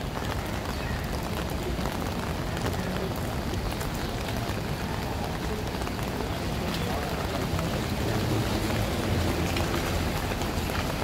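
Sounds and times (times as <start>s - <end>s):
city traffic on wet streets: 0.0s - 11.0s
steady rain hiss: 0.0s - 11.0s.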